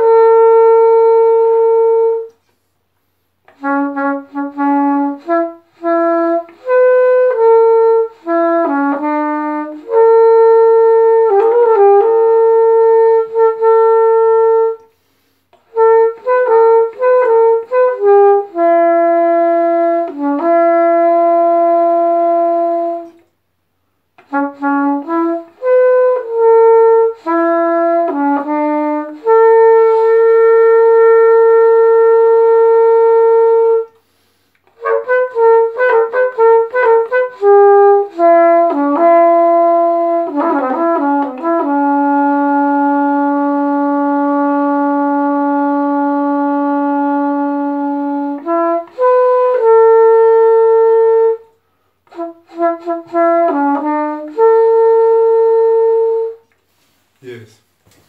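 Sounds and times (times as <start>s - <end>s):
solo brass horn melody: 0.0s - 57.7s.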